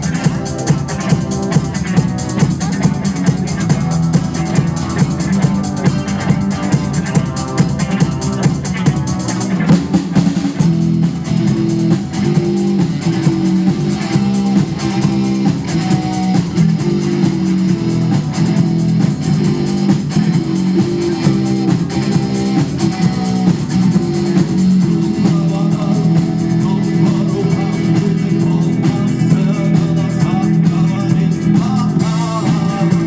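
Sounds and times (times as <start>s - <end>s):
drum kit: 0.0s - 33.0s
guitar chords: 0.0s - 33.0s.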